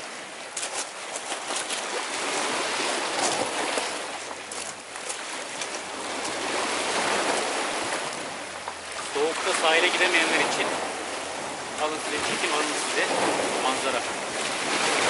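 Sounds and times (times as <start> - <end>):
waves breaking over rocks: 0.0 - 15.0.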